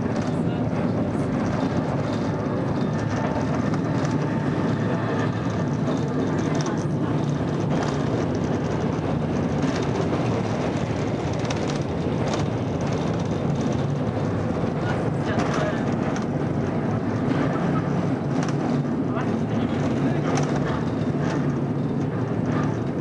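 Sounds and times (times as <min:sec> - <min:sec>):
funicular car rumbling: 0:00.0 - 0:23.0.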